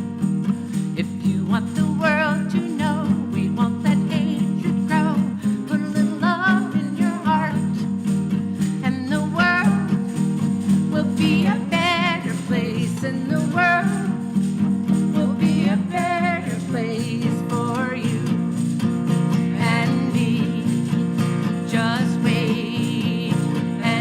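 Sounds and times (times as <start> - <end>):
instrumental accompaniment: 0.0 - 24.0
person singing with vibrato: 0.0 - 24.0.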